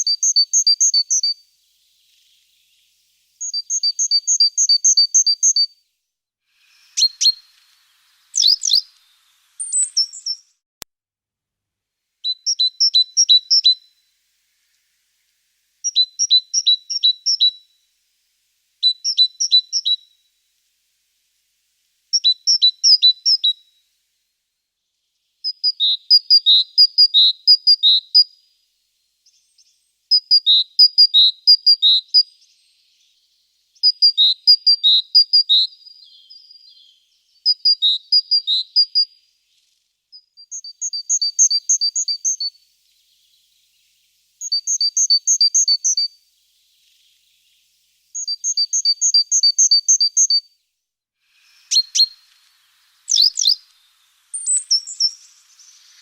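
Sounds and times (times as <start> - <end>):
small songbird singing: 0.0 - 10.6, 12.2 - 56.0.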